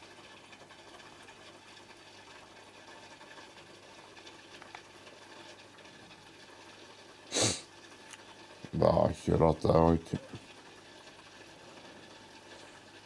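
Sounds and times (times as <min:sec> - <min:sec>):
aquarium aeration bubbling: 0:00.0 - 0:13.0
low pump hum: 0:00.0 - 0:13.0.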